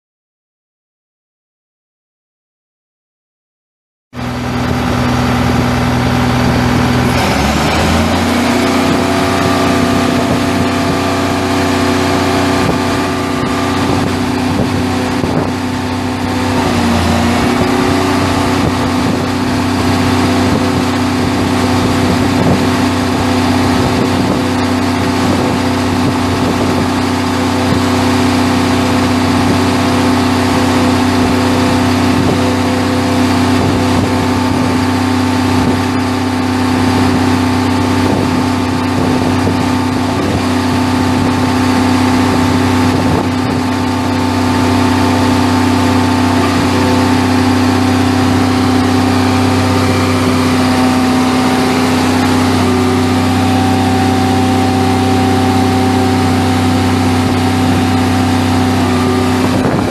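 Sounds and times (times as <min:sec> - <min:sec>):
diesel engine idling: 0:04.2 - 0:39.0, 0:39.7 - 0:59.9.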